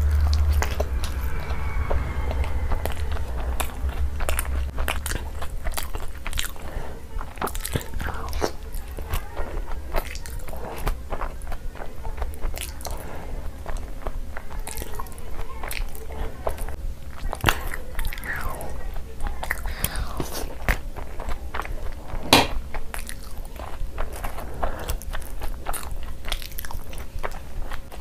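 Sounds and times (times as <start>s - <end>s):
steady low hum: 0.0s - 28.0s
wet chewing and mouth smacking: 0.0s - 28.0s.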